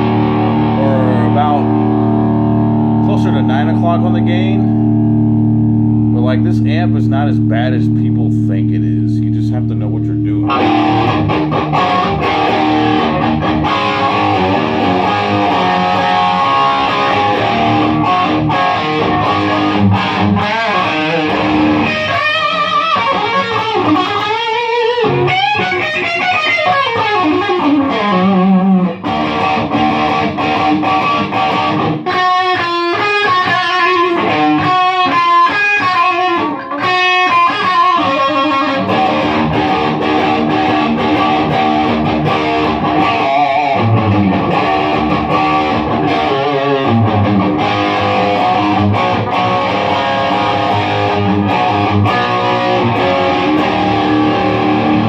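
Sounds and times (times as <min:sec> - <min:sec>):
crunchy electric guitar: 0:00.0 - 0:55.0.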